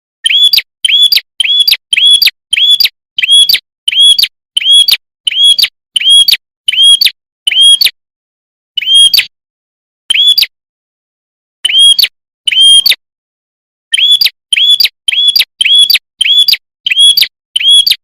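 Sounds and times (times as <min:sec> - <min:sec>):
bird call whistle with click: 0:00.2 - 0:08.0, 0:08.7 - 0:09.4, 0:10.1 - 0:10.6, 0:11.6 - 0:13.0, 0:13.9 - 0:18.0.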